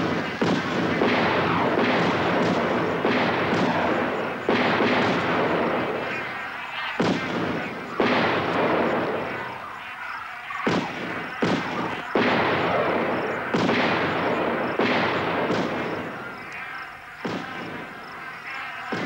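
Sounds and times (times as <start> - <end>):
shotgun shots: 0.0 - 19.0.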